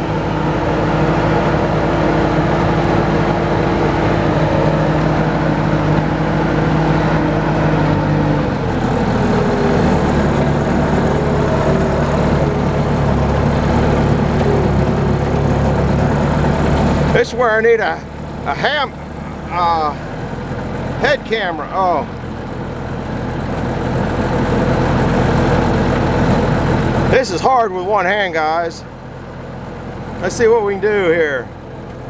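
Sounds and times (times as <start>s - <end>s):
loader engine running: 0.0s - 32.0s.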